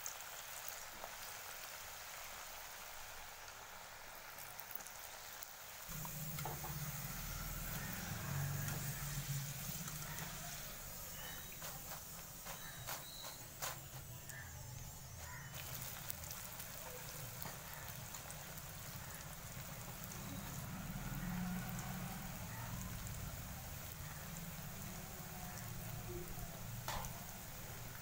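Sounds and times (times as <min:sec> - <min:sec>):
oil sizzling in deep fryer: 0:00.0 - 0:28.0.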